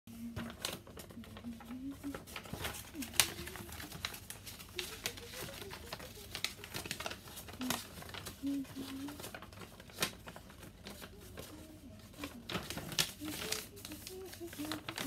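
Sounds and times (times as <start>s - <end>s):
paper rustling and crinkling: 0.1s - 15.0s.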